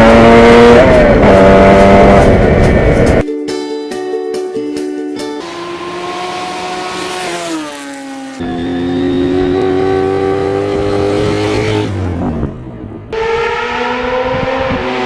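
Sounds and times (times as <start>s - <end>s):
vehicle engine accelerating: 0.0s - 3.2s, 5.4s - 15.0s.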